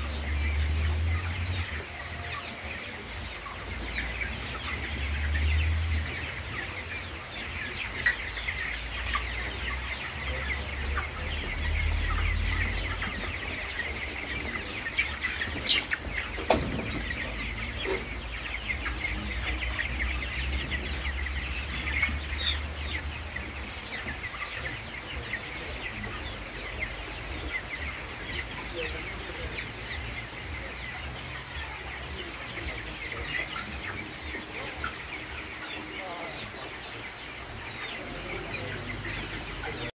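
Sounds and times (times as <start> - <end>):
chickens peeping and chirping: 0.0 - 39.9.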